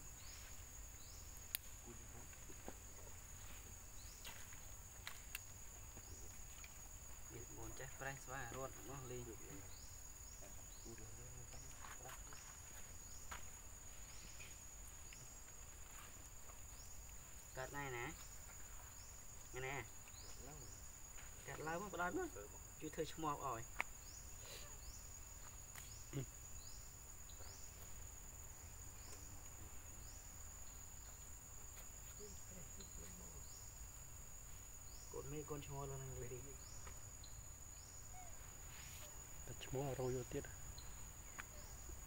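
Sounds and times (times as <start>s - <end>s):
insect rising chirps: 0.0s - 42.0s
insects high-pitched drone: 0.0s - 42.0s.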